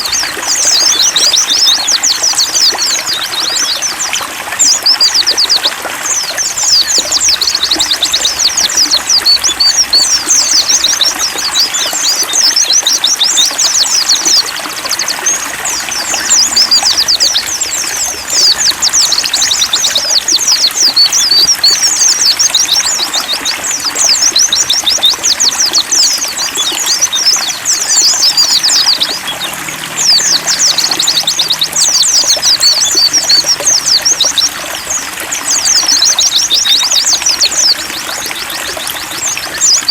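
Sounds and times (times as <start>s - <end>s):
birds twittering: 0.0s - 39.9s
trickle of running water: 0.0s - 39.9s.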